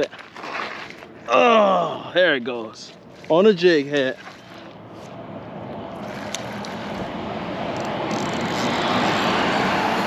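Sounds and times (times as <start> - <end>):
truck road noise: 1.0 - 10.0.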